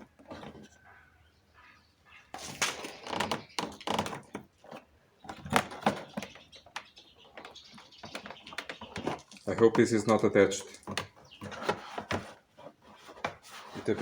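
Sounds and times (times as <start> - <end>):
plastic trim clicking and scraping: 2.4 - 14.0.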